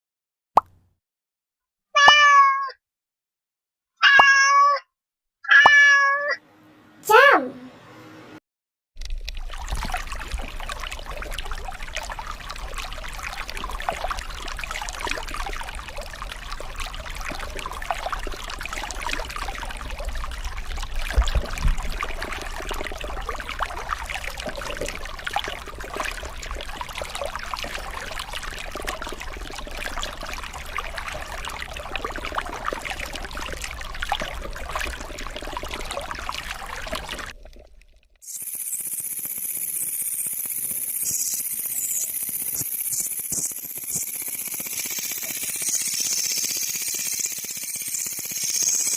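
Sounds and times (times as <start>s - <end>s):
water trickling and splashing: 9.0s - 48.9s.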